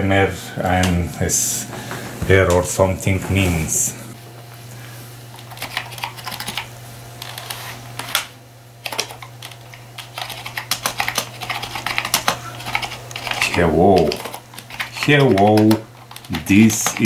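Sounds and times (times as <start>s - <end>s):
computer low hum: 0.0s - 17.0s.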